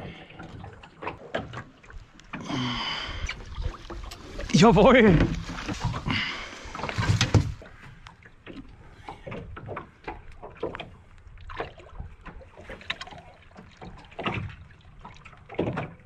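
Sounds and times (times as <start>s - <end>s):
knocks and rustles on boat: 0.0s - 2.5s, 3.3s - 16.0s.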